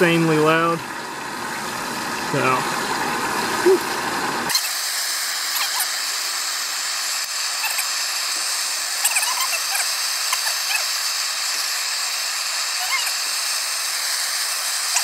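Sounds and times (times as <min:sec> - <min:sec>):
camp stove roaring: 0:00.0 - 0:15.0
fish sizzling in a frying pan: 0:00.9 - 0:15.0.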